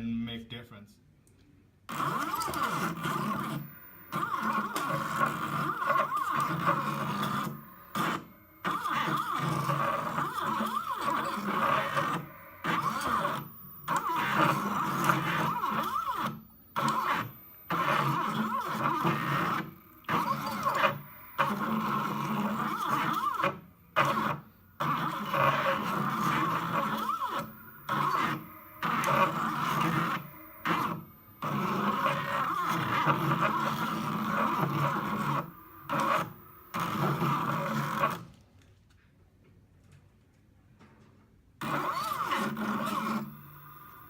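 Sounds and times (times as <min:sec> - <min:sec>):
stepper motors humming: 0:01.9 - 0:38.2, 0:41.6 - 0:44.0.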